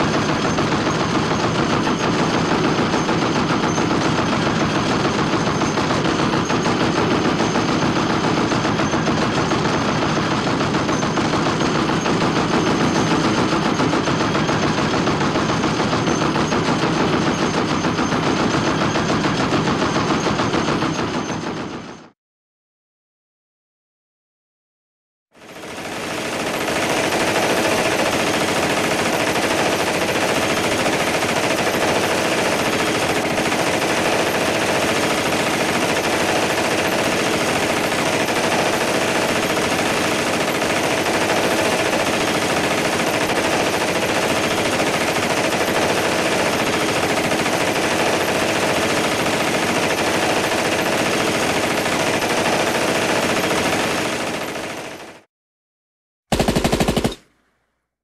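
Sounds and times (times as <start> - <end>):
machine-gun fire: 0.0 - 21.9, 25.4 - 55.3, 56.3 - 57.6.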